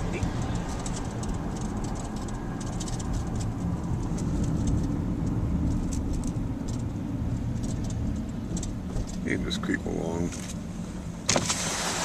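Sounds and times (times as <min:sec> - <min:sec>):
vehicle rumble from inside cab: 0:00.0 - 0:12.0.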